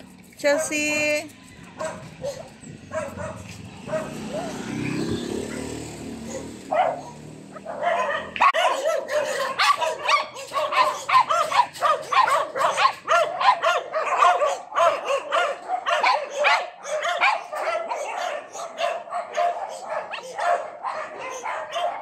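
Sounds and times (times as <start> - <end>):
small dog barking: 1.8 - 4.8, 5.4 - 22.0.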